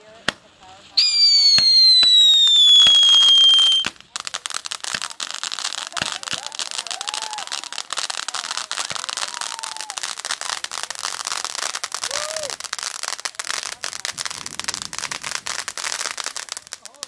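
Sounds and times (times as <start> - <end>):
fireworks crackling bangs: 0.0 - 17.0
fireworks hiss: 0.0 - 17.0.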